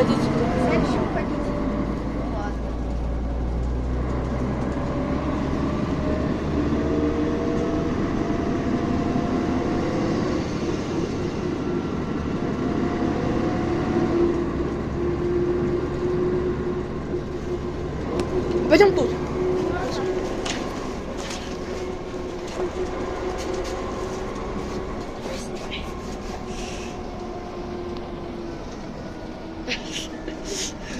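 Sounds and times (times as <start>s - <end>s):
bus engine running: 0.0s - 30.9s
rising drivetrain whine: 0.0s - 30.9s
road noise: 0.0s - 30.9s.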